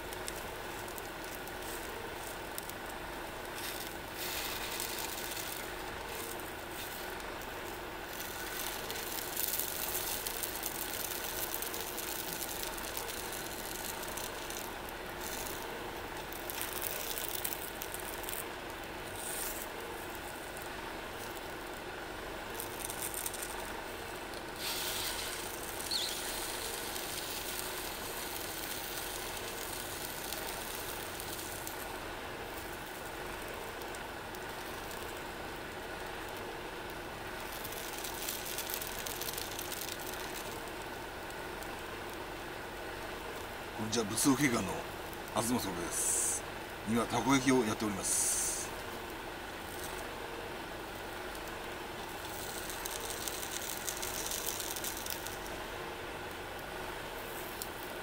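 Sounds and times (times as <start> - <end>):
food sizzling: 0.0 - 58.0
gas stove hissing: 0.0 - 58.0.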